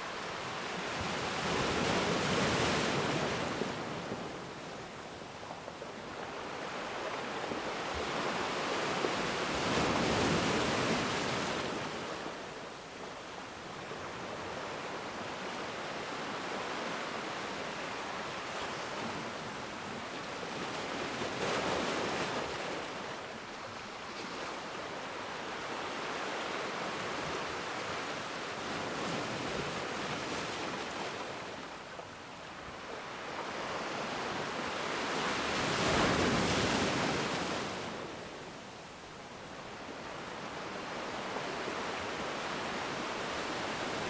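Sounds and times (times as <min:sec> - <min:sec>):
ocean waves breaking on shore: 0:00.0 - 0:44.0.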